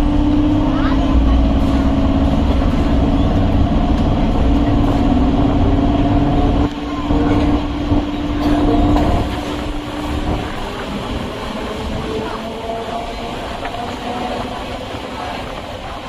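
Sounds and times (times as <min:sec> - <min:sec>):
electric train rumbling on track: 0:00.0 - 0:16.0.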